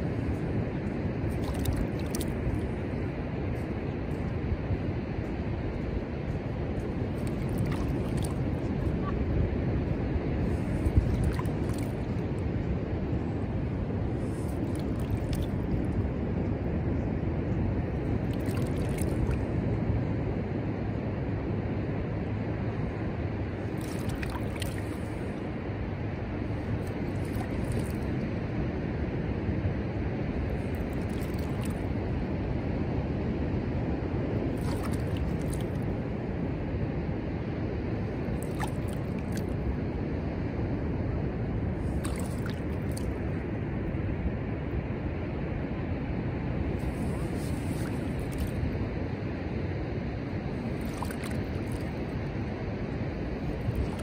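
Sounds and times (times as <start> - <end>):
distant ocean surf: 0.0 - 54.0
wind rumbling on microphone: 0.0 - 54.0.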